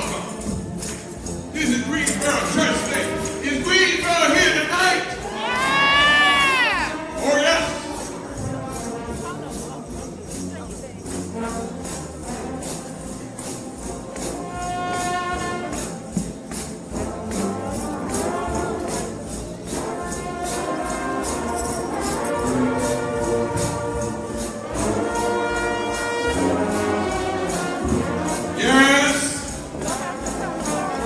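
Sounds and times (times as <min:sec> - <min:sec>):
tambourines struck: 0:00.0 - 0:31.0
trombone band playing gospel: 0:00.0 - 0:31.0.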